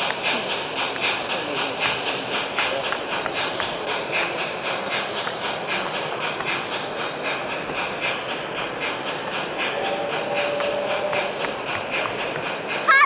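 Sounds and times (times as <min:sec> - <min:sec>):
steam hiss: 0:00.0 - 0:13.0
steam locomotive chuffing: 0:00.0 - 0:13.0.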